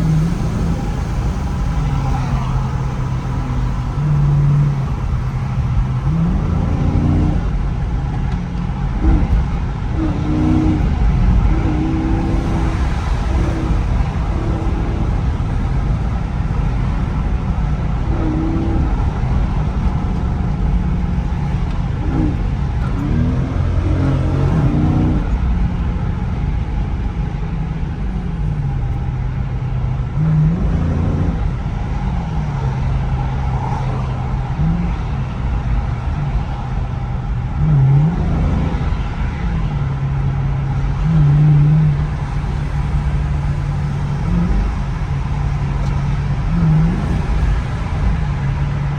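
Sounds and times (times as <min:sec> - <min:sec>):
car engine running: 0:00.0 - 0:48.9
engine rev surges: 0:00.0 - 0:48.9.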